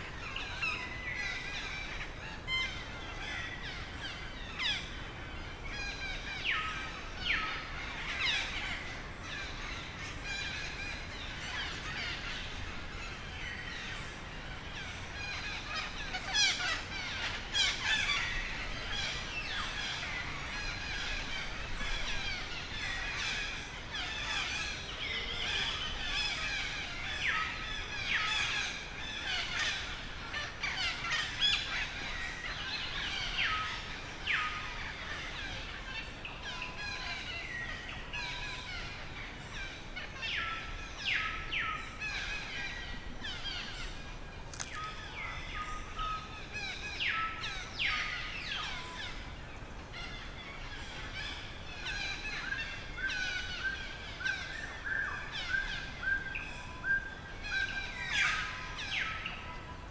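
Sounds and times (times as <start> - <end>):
many birds chirping: 0.0 - 59.9.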